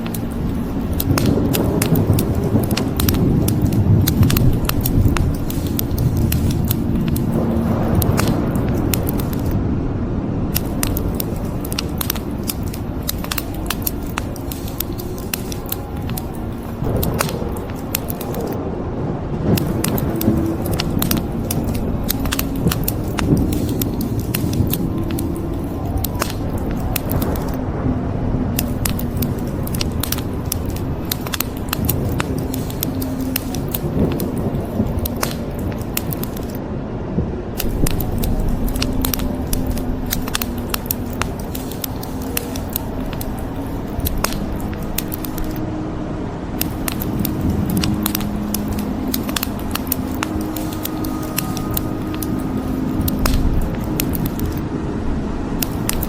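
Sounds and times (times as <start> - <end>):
fire pops and snaps: 0.0 - 9.6, 10.5 - 18.6, 19.4 - 27.6, 28.5 - 36.6, 37.5 - 45.6, 46.5 - 54.6, 55.6 - 56.0
wood fire crackling: 0.0 - 9.6, 10.3 - 18.6, 19.3 - 27.8, 28.4 - 56.0.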